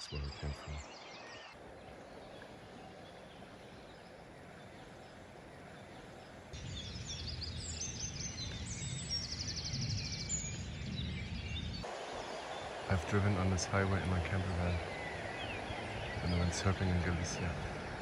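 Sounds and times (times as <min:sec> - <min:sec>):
birds chirping and trilling: 0:00.0 - 0:18.0.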